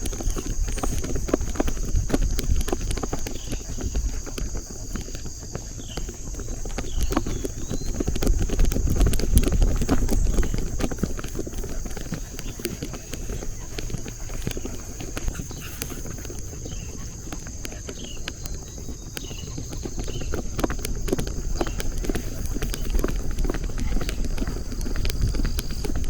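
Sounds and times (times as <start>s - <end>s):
footsteps on ground: 0.0s - 26.0s.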